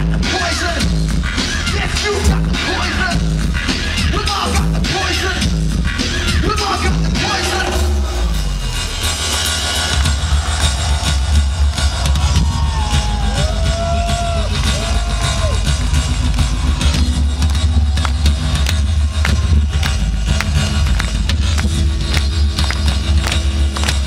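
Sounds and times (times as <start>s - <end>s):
electronic dance music with heavy bass: 0.0s - 24.0s.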